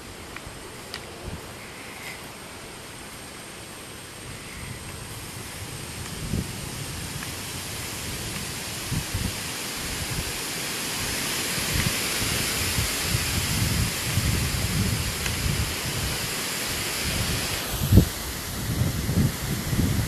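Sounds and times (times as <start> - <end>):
steady rushing hiss: 0.0 - 20.0
wind gusting across microphone: 0.0 - 20.0.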